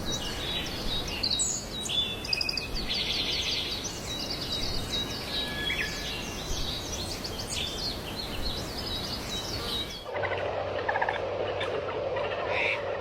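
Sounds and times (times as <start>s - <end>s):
birds chirping and warbling: 0.0s - 13.0s
steady background hiss: 0.0s - 13.0s.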